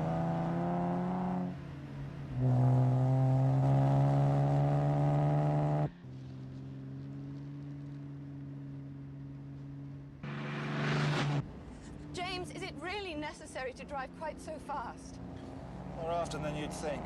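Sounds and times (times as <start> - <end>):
car engine at high revs: 0.0 - 12.2, 15.2 - 17.0.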